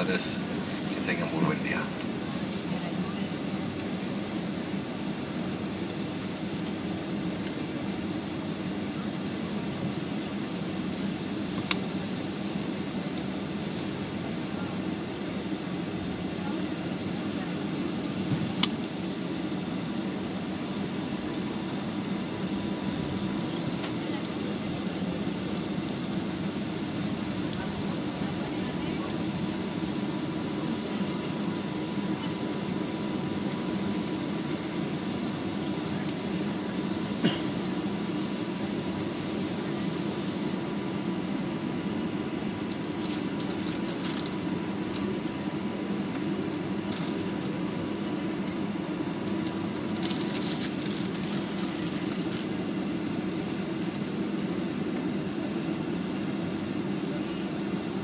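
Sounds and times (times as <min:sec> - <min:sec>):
airliner cabin hum: 0:00.0 - 0:58.0.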